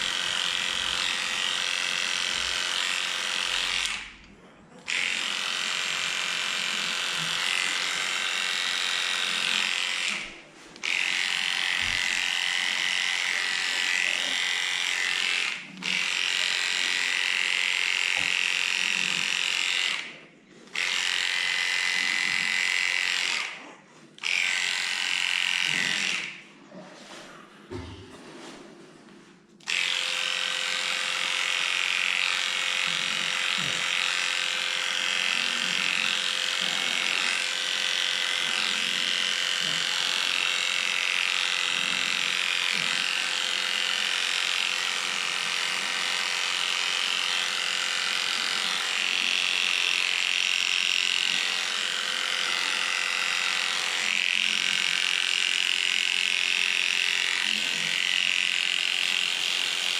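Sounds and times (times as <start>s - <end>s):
electric clippers buzzing: 0.0s - 26.4s, 29.6s - 59.9s.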